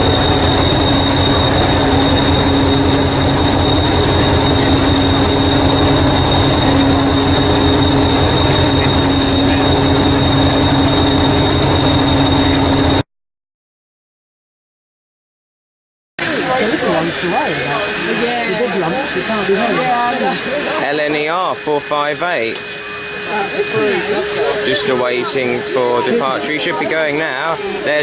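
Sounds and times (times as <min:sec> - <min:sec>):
train running on rails: 0:00.0 - 0:13.0, 0:16.2 - 0:28.0.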